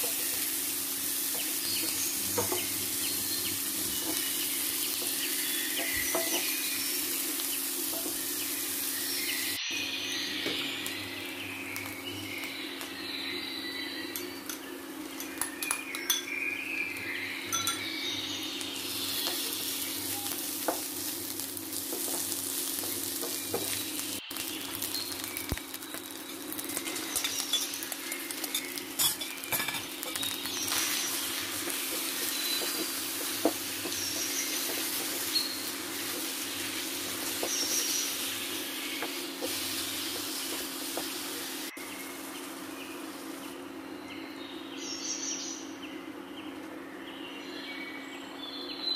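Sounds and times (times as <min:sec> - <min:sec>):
food sizzling in frying pan: 0:00.0 - 0:43.8.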